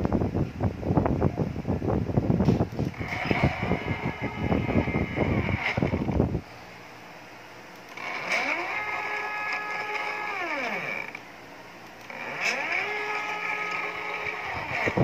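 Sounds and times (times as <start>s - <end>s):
stepper motor whine: 2.6s - 15.0s.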